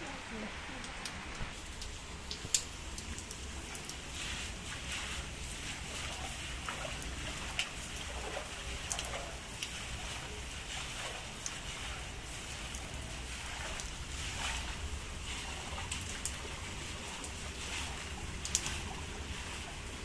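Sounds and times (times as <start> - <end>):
rain on concrete rooftop: 0.0 - 20.0
broom swishing through water: 3.0 - 20.0.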